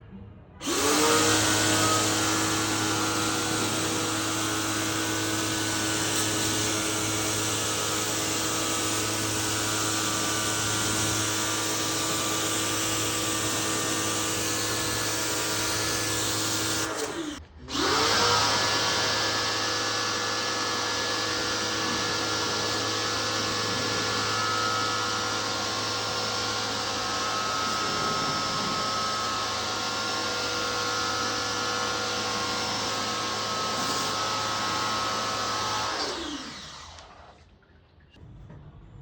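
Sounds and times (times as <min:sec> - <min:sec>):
power tool motor whining: 0:00.6 - 0:37.5.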